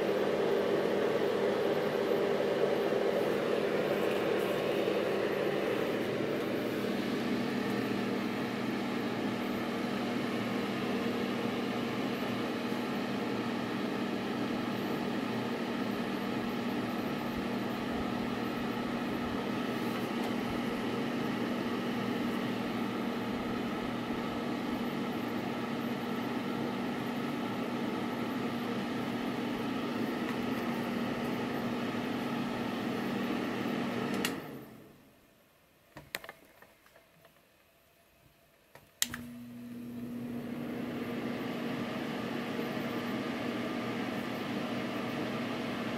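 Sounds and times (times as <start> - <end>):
fan heater running: 0.0 - 35.1, 39.0 - 45.9.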